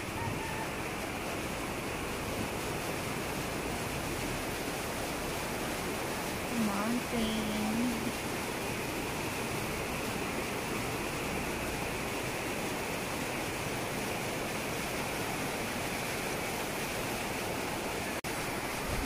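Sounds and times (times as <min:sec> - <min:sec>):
water running over stones: 0:00.0 - 0:19.0.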